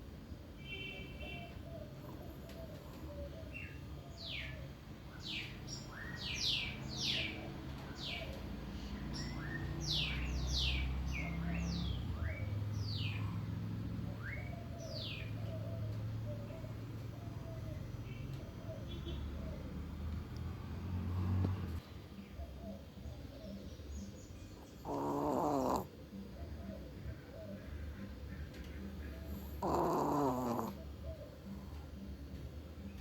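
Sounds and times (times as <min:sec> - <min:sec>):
bird chirping: 0:00.6 - 0:32.1.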